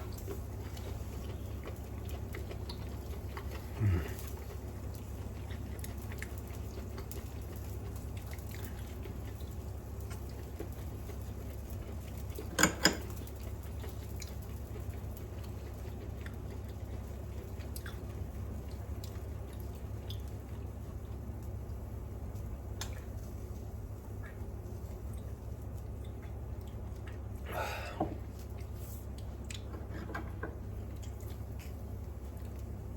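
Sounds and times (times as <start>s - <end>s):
range hood fan humming: 0.0s - 32.9s.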